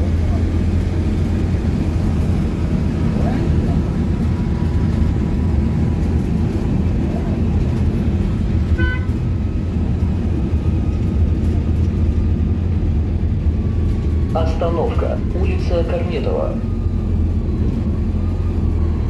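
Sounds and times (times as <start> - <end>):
bus cabin drone: 0.0 - 19.0.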